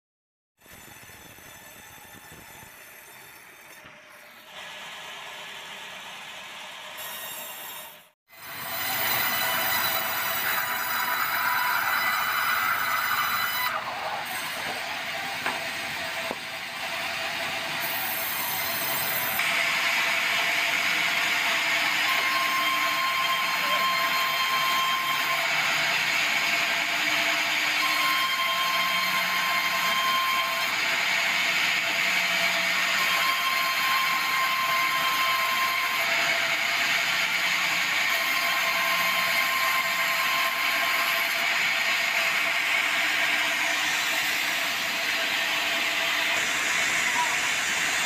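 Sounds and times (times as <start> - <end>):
saw whine: 0.6 - 48.0
sawmill sawing log: 8.4 - 48.0.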